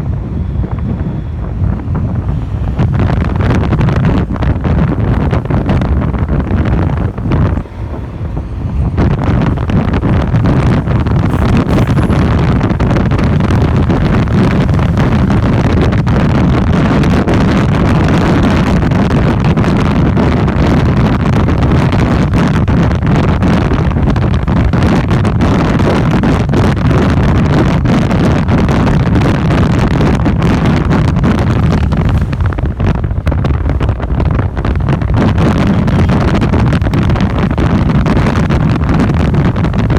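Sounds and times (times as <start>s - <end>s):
motorcycle engine and road noise: 0.0s - 39.9s
wind rushing over microphone: 0.0s - 39.9s.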